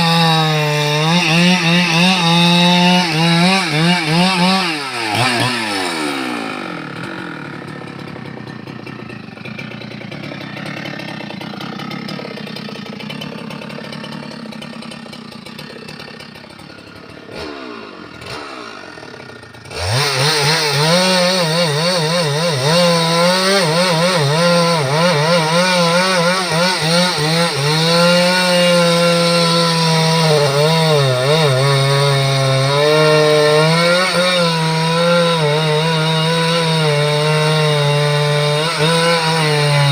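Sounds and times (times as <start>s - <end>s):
chainsaw cutting into log: 0.0s - 39.9s.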